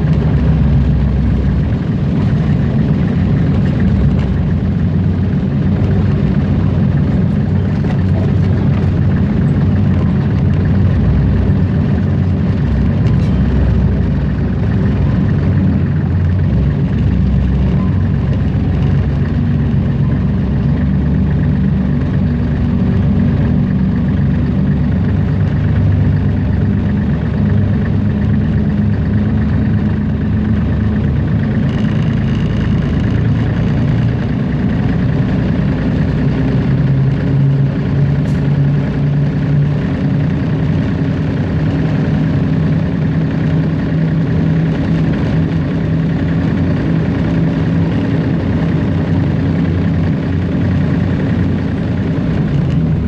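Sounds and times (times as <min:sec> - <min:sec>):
diesel locomotive engine running: 0:00.0 - 0:53.0.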